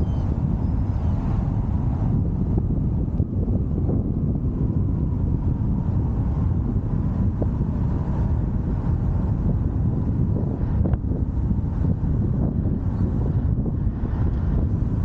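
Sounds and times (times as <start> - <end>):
car engine and tyre rumble: 0.0 - 15.0
wind noise: 0.0 - 15.0.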